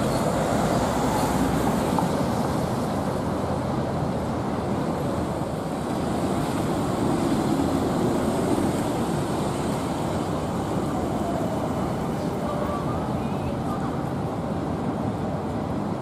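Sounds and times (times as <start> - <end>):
street traffic on wet road: 0.0 - 16.0.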